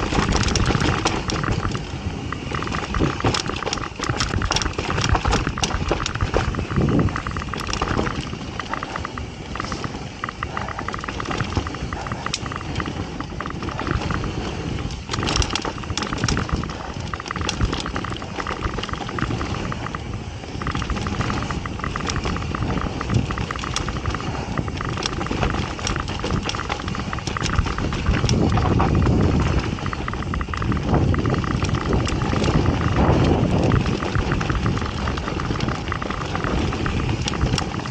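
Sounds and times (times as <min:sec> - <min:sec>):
bike rattling over bumps: 0:00.0 - 0:37.9
bike tyre and air noise: 0:00.0 - 0:37.9.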